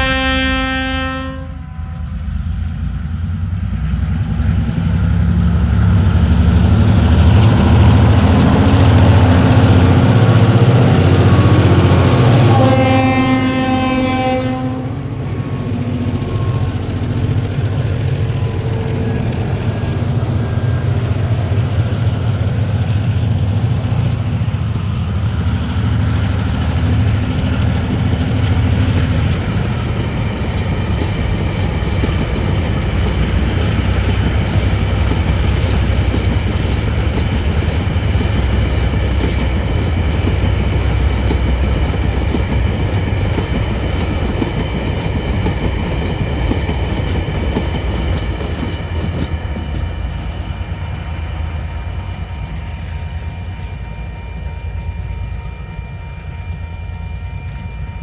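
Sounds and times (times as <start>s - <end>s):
diesel locomotive engine hum: 0.0s - 58.0s.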